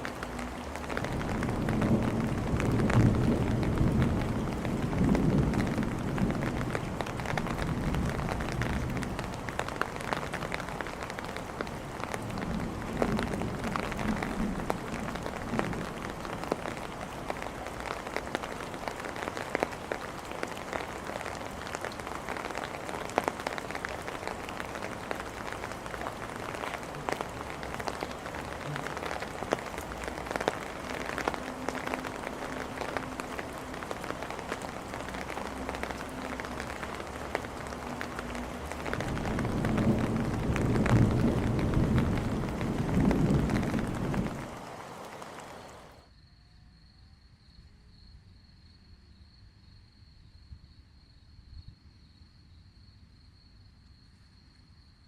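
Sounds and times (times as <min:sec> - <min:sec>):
thunder rumbling: 0:00.0 - 0:46.0
heavy rain on hard surfaces: 0:00.0 - 0:46.1.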